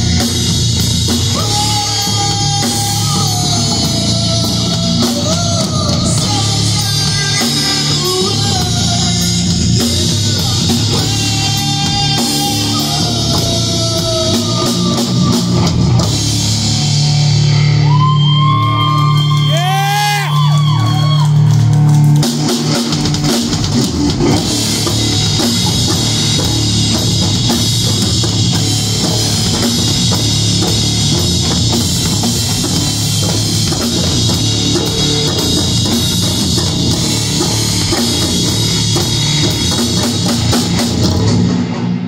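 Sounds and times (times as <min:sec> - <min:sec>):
distorted guitar and bass chords: 0:00.0 - 0:42.0
drum kit: 0:00.0 - 0:42.0.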